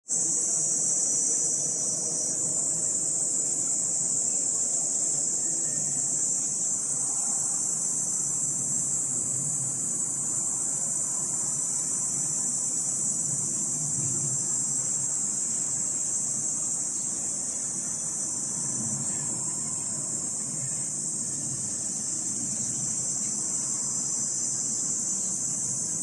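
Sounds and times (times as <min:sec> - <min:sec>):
insects buzzing: 0:00.1 - 0:26.0.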